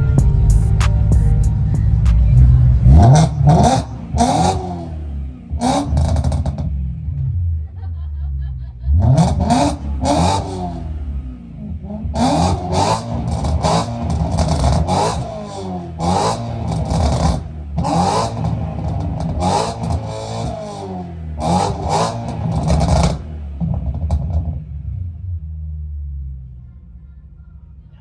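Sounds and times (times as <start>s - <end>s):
car engine revving: 0.0s - 26.6s.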